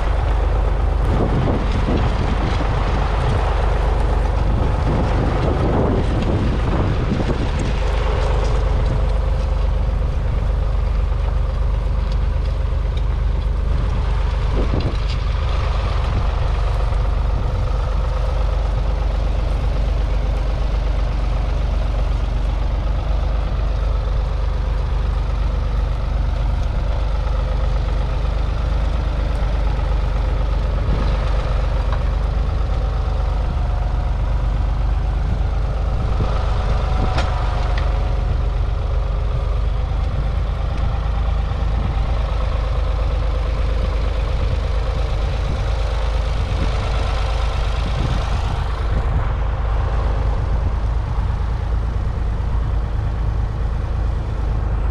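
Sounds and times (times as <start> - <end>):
diesel tractor engine under load: 0.0 - 54.9.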